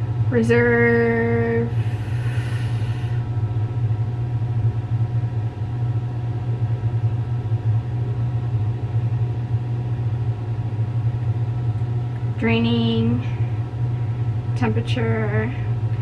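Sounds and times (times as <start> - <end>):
low-pitched hum: 0.0 - 16.0.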